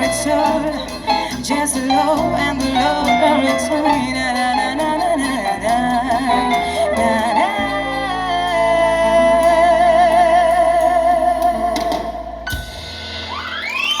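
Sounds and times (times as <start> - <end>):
band playing a ballad: 0.0 - 14.0.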